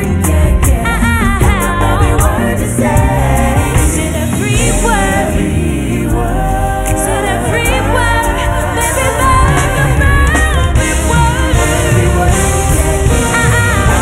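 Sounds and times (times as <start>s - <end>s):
band playing soul music: 0.0s - 14.0s
steady bass: 0.0s - 14.0s
woman singing: 0.0s - 14.0s.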